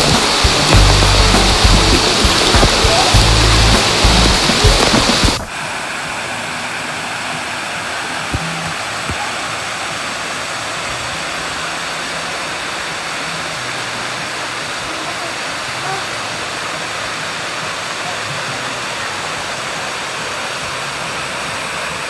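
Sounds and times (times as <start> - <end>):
water splashing on microphone: 0.0 - 22.0
waterfall rushing over rocks: 0.0 - 22.0.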